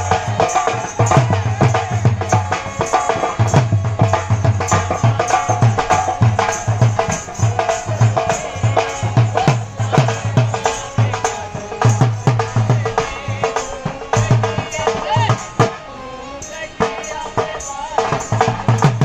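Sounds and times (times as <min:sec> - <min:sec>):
hand drum beat: 0:00.0 - 0:15.8, 0:16.8 - 0:19.0.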